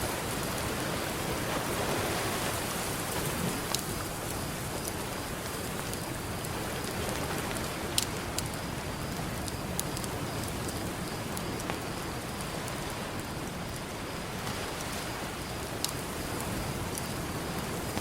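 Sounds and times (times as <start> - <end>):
campfire crackling: 0.0 - 18.0
sharp pops of fire: 2.4 - 18.0.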